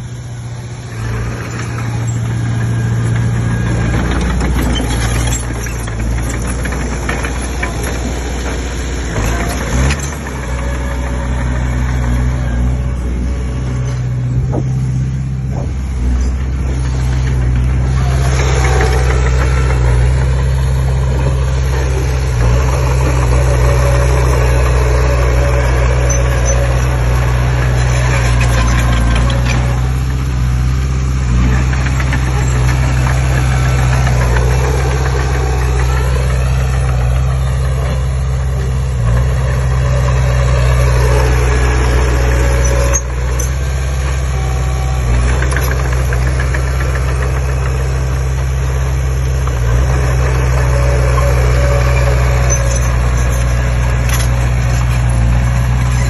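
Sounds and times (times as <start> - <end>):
bulldozer diesel engine: 0.0 - 56.0
clatter and scraping: 0.9 - 56.0.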